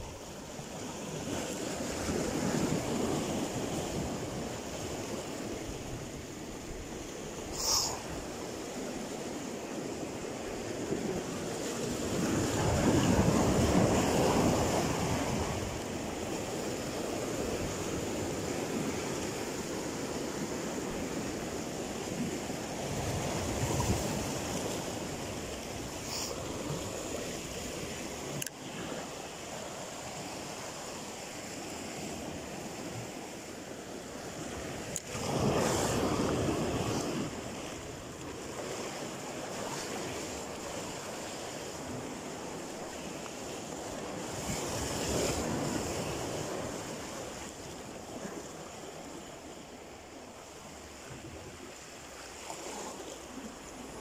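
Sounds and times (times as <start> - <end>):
waves against rocky shore: 0.0 - 54.0.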